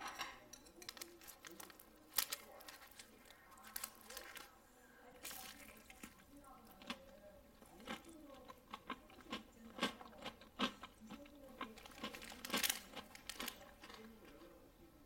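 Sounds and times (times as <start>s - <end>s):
person crunching food: 0.9s - 4.5s, 5.2s - 14.4s.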